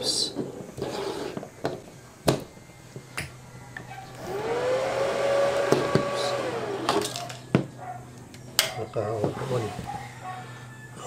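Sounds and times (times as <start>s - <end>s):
cooling fan whirring: 0.0s - 11.0s.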